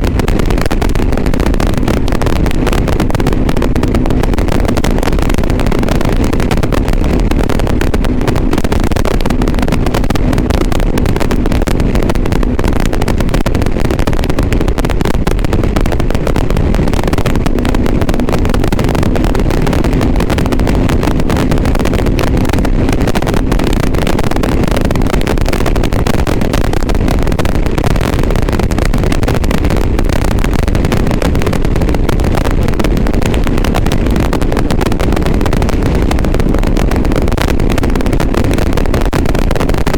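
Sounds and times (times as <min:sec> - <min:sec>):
motorcycle engine hum: 0:00.0 - 0:39.9
rumbling wind noise: 0:00.0 - 0:39.9.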